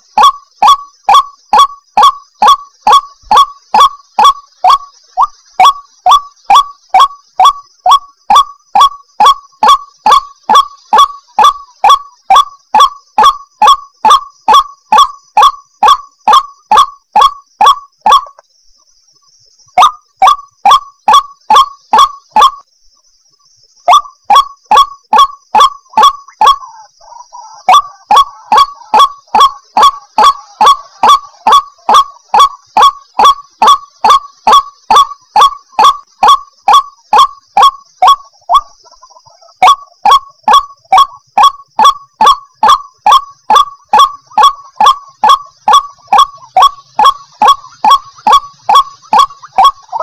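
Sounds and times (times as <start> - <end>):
waterhen calling: 0.0 - 18.4, 19.7 - 22.6, 23.9 - 50.0.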